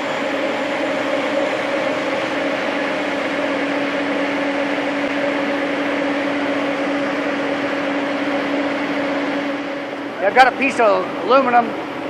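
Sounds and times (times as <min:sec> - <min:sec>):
belt sander running: 0:00.0 - 0:12.0.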